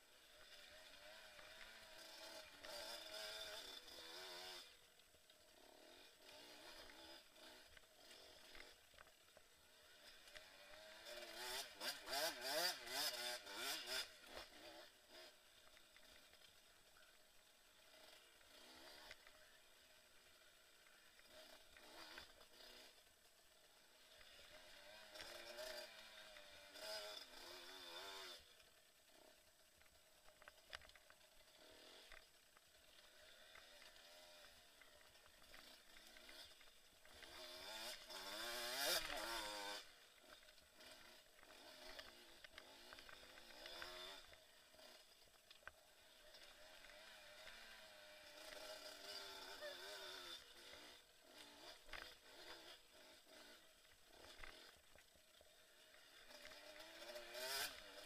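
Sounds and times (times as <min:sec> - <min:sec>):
motorcycle engine revving: 0:00.2 - 0:17.1, 0:17.7 - 0:58.0.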